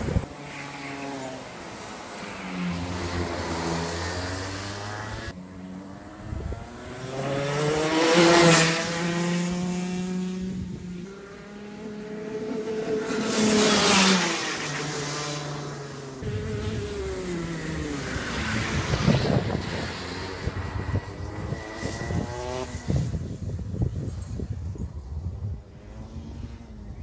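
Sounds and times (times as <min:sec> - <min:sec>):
racing karts passing at high revs: 0:00.0 - 0:27.0.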